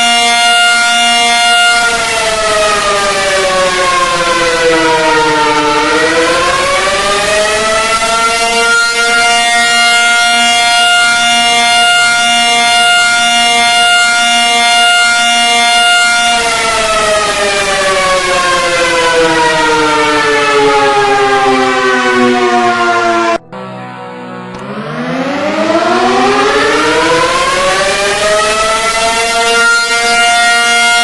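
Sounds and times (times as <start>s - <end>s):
civil defense siren: 0.0s - 31.0s.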